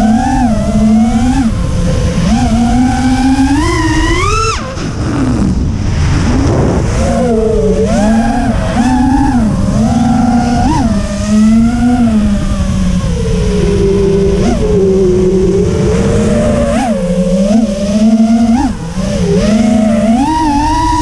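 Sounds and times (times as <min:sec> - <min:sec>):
drone motors whining: 0:00.0 - 0:21.0
wind rushing: 0:01.4 - 0:19.6.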